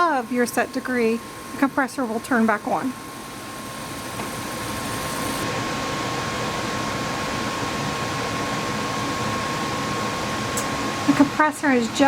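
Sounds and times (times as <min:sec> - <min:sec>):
air conditioner fan rushing: 0:00.0 - 0:12.0
steady whine: 0:00.0 - 0:12.0.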